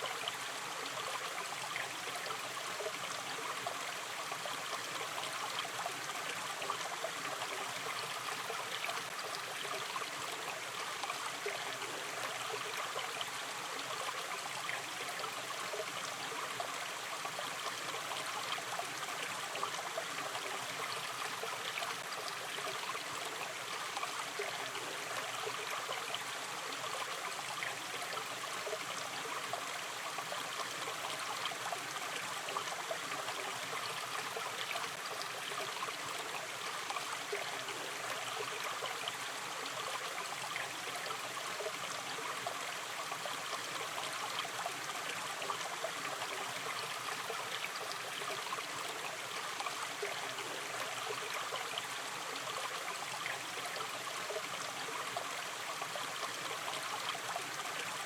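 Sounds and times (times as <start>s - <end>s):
river stream flowing: 0.0s - 58.0s.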